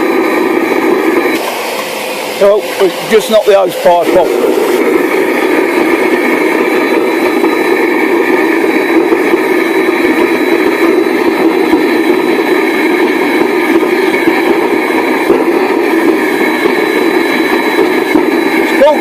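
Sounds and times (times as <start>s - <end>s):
furnace burner roaring: 0.0s - 19.0s.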